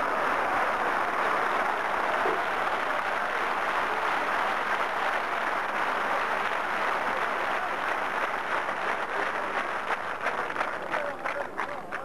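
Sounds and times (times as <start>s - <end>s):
crowd applauding and cheering: 0.0s - 12.0s.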